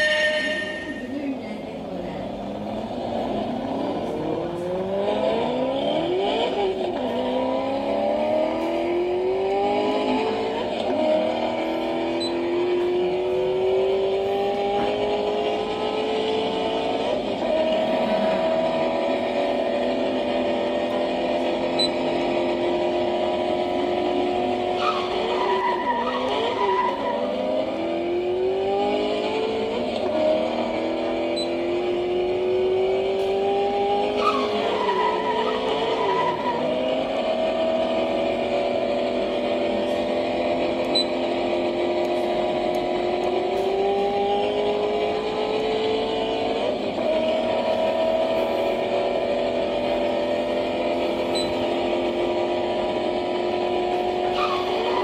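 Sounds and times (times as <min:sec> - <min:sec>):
sports car engines revving: 0:00.0 - 0:55.0.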